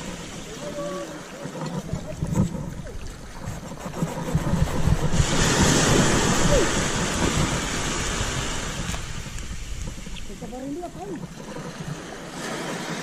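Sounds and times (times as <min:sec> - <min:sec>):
surf washing up on beach: 0:00.0 - 0:03.3, 0:04.1 - 0:13.0
wind rumble on microphone: 0:00.0 - 0:13.0.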